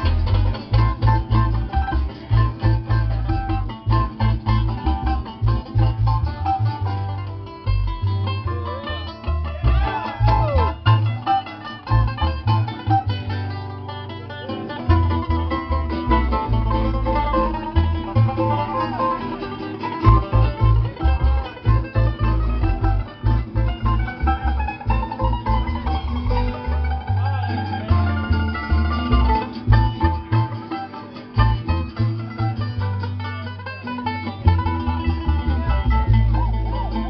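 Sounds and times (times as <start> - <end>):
acoustic guitar: 0.0 - 37.0
banjo: 0.0 - 37.0
plucked upright bass: 0.0 - 37.0.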